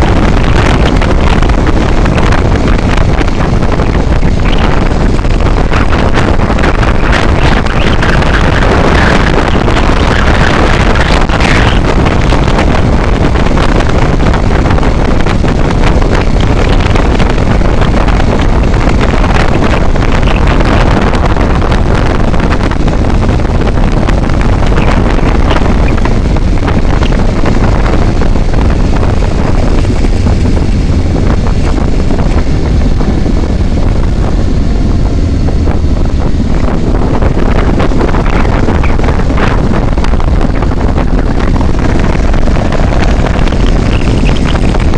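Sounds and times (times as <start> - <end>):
moving vehicle road noise: 0.0 - 44.9
wind rushing over microphone: 0.0 - 44.9.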